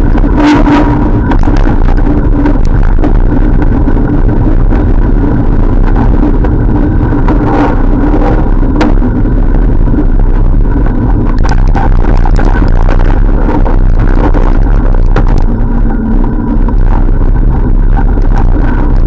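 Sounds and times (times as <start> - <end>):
bicycle road noise: 0.0 - 19.0
steady hum: 0.0 - 19.0
wind rushing on microphone: 0.0 - 19.0.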